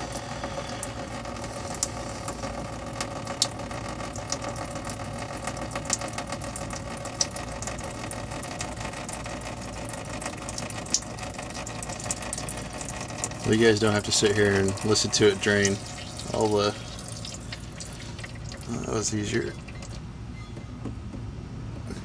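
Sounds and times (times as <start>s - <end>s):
fuel splashing into a bucket: 0.0s - 20.0s
sharp drip ticks: 0.0s - 20.0s
steady mechanical hum: 0.0s - 22.0s.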